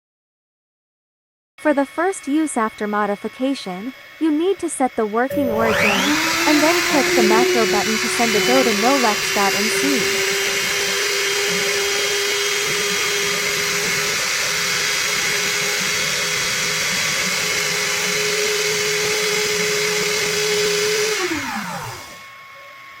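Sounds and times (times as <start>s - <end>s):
router spindle whining: 1.7s - 23.0s.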